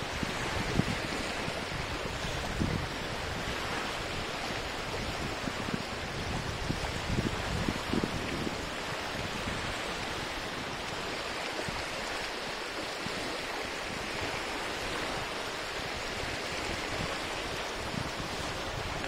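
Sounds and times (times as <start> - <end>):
lake waves washing onto shore: 0.0 - 19.0.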